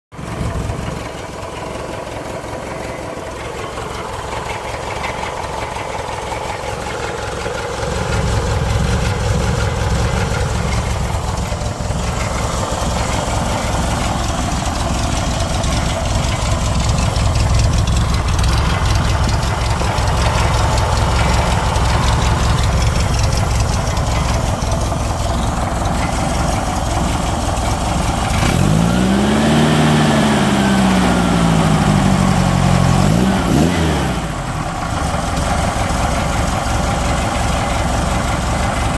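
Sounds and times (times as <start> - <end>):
car engine running with rattle: 0.1 - 38.9.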